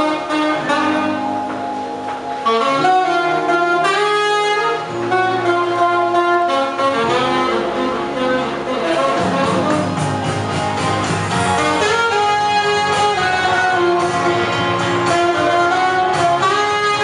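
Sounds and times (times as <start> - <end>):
alto saxophone jazzy melody: 0.0 - 17.0
backing track low notes: 0.0 - 17.0.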